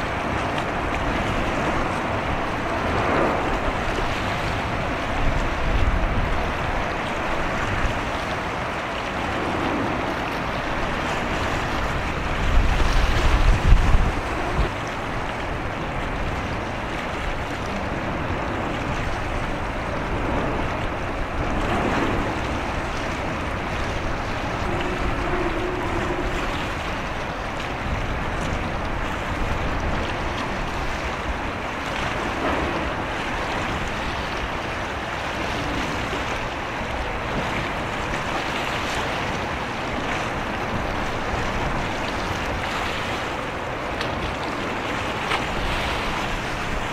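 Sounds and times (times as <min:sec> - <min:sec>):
waves rushing: 0:00.0 - 0:46.9
wind on microphone: 0:00.0 - 0:46.9.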